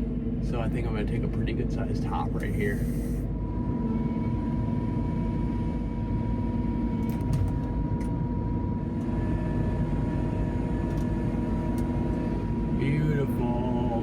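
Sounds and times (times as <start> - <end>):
thin steady whine: 0.0 - 7.1, 7.8 - 14.0
diesel engine low drone: 0.0 - 14.0.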